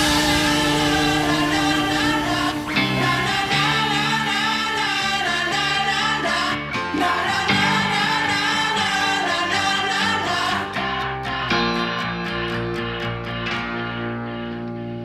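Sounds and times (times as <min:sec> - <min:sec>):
pop-rock song with vocals: 0:00.0 - 0:13.9.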